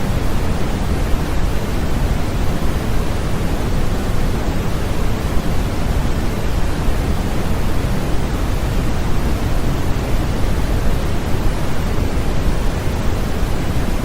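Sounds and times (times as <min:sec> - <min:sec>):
steady white noise hiss: 0:00.0 - 0:14.0.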